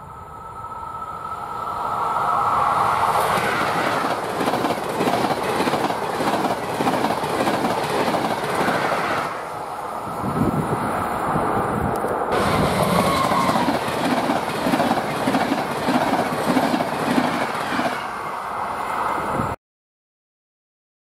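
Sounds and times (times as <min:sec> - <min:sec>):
passenger train passing: 0:00.0 - 0:19.6.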